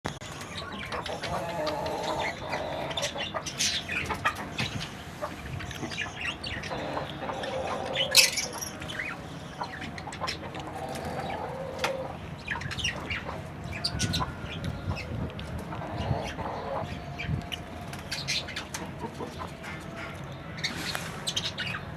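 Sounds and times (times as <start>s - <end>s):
pet birds chirping and squawking: 0.1s - 21.9s.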